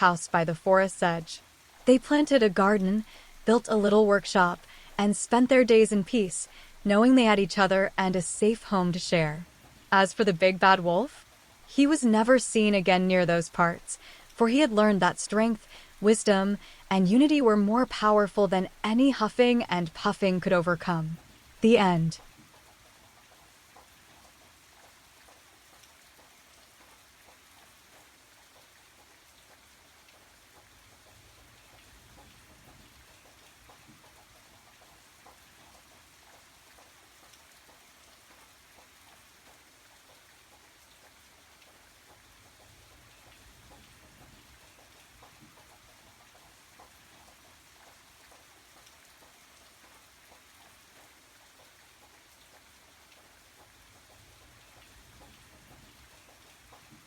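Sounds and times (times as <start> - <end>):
faint steady rain: 0.0 - 57.0.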